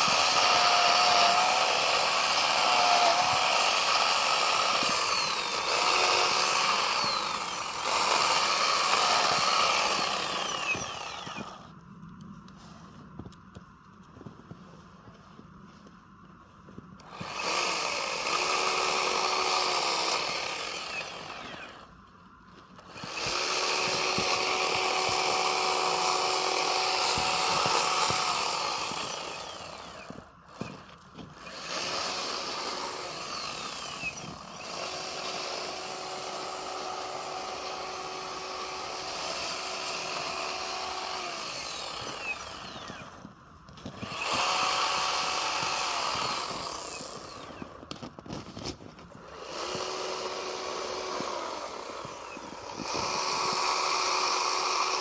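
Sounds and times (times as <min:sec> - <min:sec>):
chainsaw cutting snow: 0:00.0 - 0:11.8, 0:16.8 - 0:55.0.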